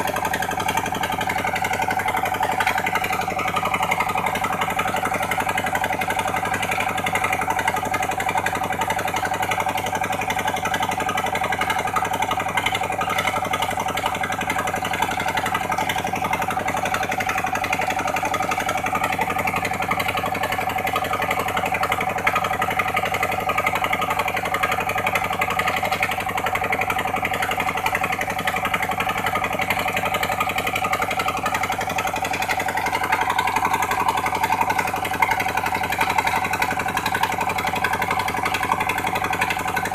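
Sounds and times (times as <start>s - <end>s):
dredge pump engine running: 0.0s - 39.9s.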